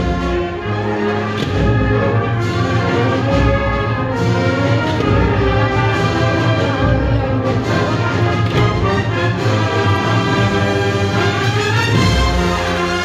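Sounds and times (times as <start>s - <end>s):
marching band brass chords: 0.0s - 13.0s
marching drum beat: 1.3s - 13.0s.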